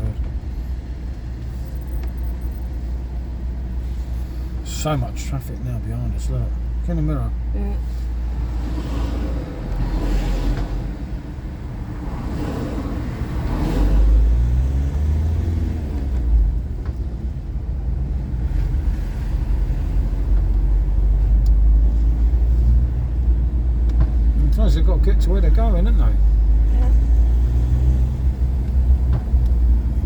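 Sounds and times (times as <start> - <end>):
car driving slowly interior rumble: 0.0 - 30.0.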